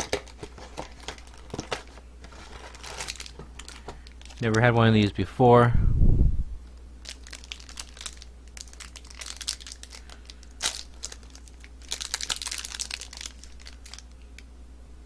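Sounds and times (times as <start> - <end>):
plastic wrapper crinkling: 0.0 - 4.8, 7.0 - 14.4.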